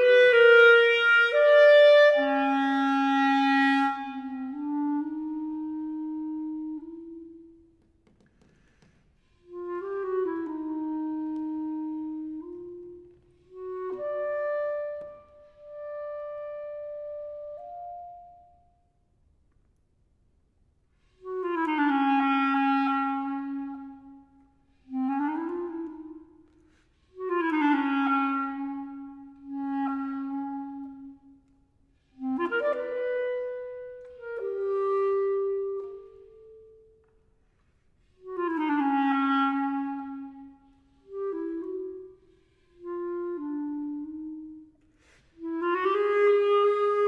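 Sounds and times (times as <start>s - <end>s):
solo clarinet playing: 0.0s - 8.1s, 9.2s - 19.0s, 21.0s - 37.4s, 38.0s - 47.0s.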